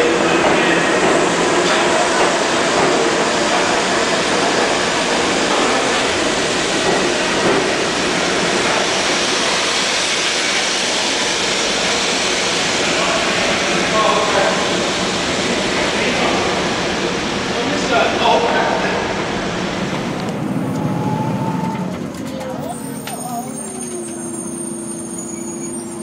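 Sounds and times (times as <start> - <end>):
subway train rumbling: 0.0 - 26.0.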